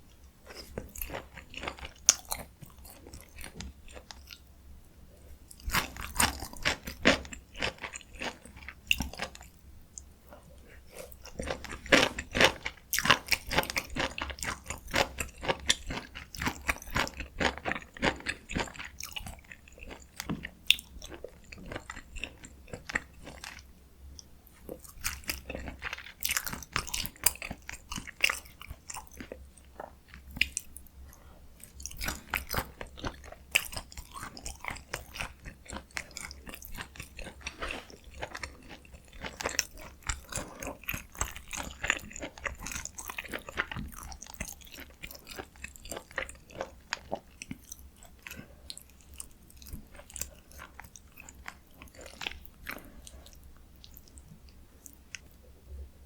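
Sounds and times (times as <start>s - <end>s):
crunchy chewing mouth sounds: 0.2s - 4.5s, 5.5s - 55.8s.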